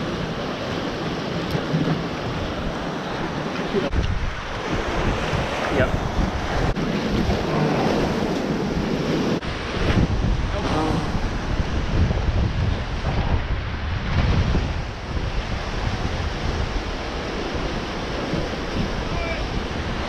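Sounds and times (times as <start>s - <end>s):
surf breaking on rocky shore: 0.0s - 20.0s
wind buffeting microphone: 0.0s - 20.0s.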